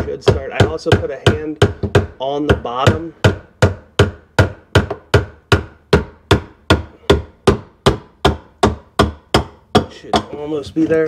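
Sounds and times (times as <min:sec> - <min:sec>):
hammer knocking on metal ring: 0:00.2 - 0:10.4.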